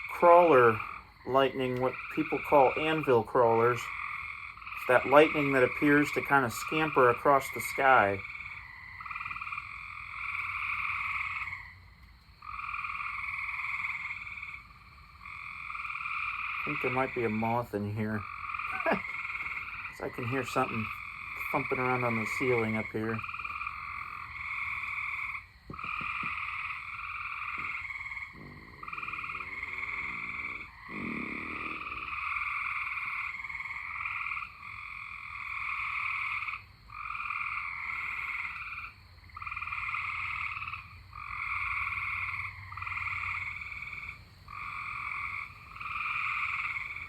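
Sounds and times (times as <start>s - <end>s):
frogs trilling in chorus: 0.0s - 47.0s.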